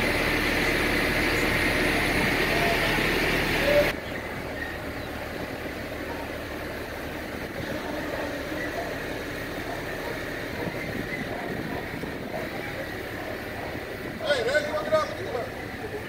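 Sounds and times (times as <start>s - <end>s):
crane engine running: 0.0s - 16.0s.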